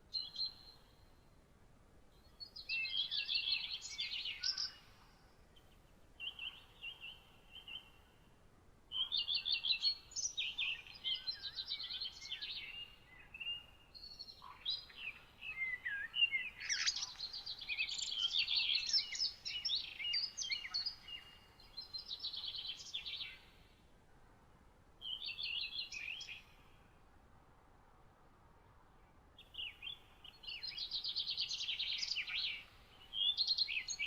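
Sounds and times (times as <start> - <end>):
faint steady hiss: 0.0 - 34.0
songbirds chirping: 0.0 - 34.0.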